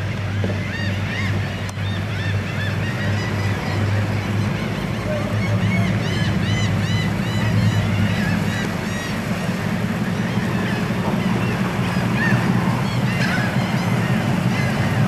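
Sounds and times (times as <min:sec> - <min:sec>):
boat engine idling: 0:00.0 - 0:15.0
gulls calling: 0:00.0 - 0:15.0.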